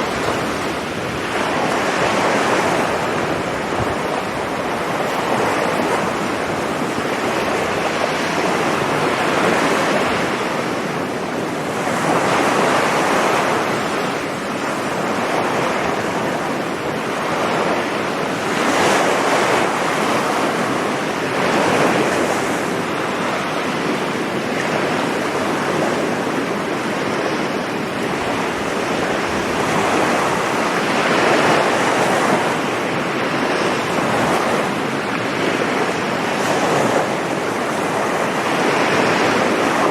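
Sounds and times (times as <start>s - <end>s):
sea waves breaking on a beach: 0.0s - 39.9s.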